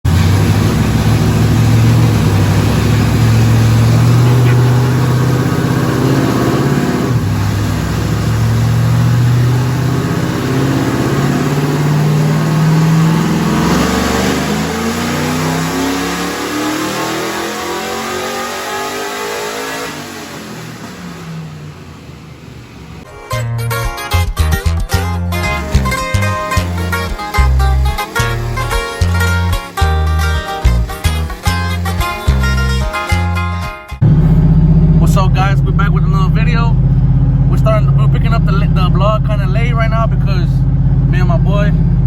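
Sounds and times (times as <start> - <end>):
race engine at full throttle: 0.0 - 23.1, 25.2 - 42.0.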